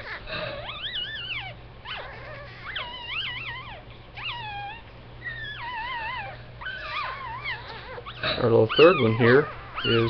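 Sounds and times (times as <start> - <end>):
puppies crying: 0.0 - 10.0.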